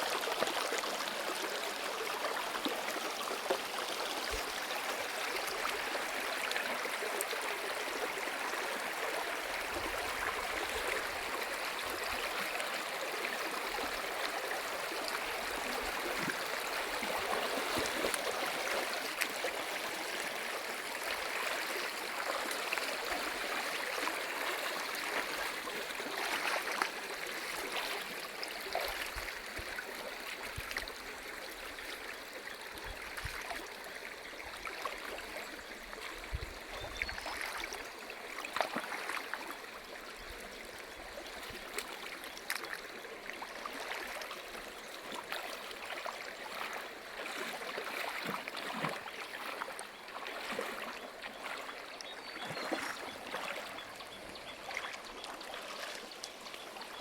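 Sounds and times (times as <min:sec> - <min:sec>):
stream water trickling over rocks: 0:00.0 - 0:57.0.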